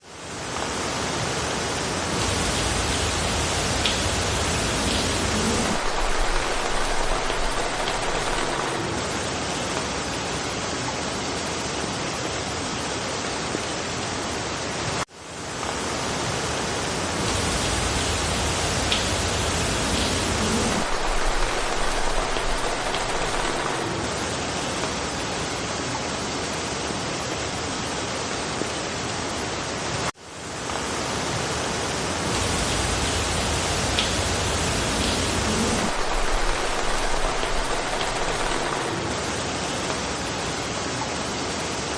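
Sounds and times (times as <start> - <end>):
rain falling in forest: 0.0 - 41.9.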